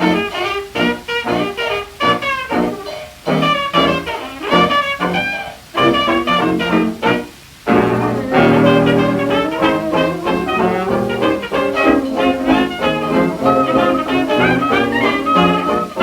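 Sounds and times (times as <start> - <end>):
jazz dance band on old record: 0.0 - 16.0.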